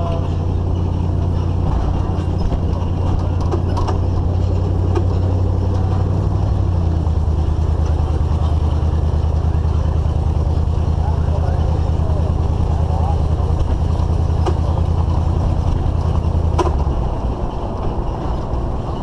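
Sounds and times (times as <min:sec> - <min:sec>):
engine running: 0:00.0 - 0:19.0
light rattles: 0:00.0 - 0:19.0
road noise: 0:00.0 - 0:19.0.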